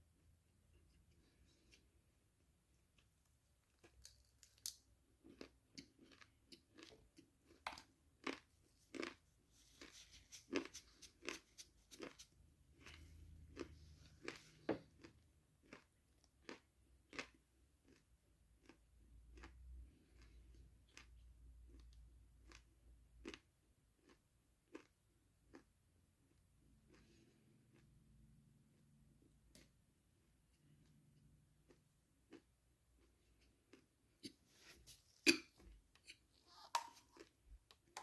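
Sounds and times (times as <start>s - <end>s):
chewing crunchy food: 3.0s - 28.5s, 30.6s - 38.0s.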